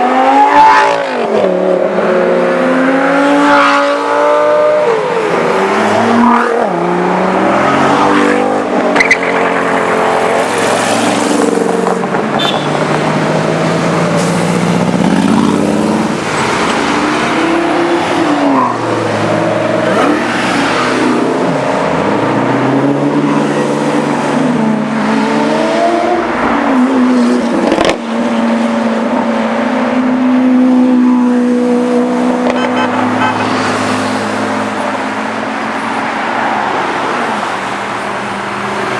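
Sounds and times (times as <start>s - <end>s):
sports car engines revving: 0.0s - 38.9s.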